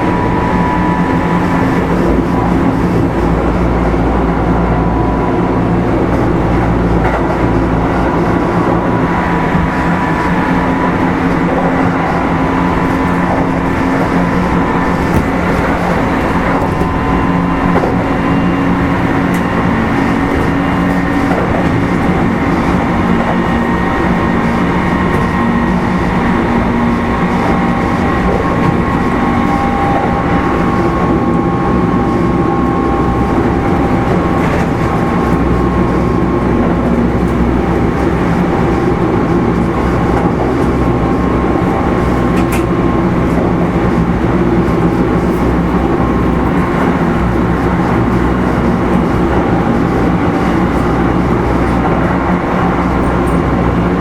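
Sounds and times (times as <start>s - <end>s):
train motor hum and whine: 0.0s - 54.0s
wheels rumbling on rail: 0.0s - 54.0s.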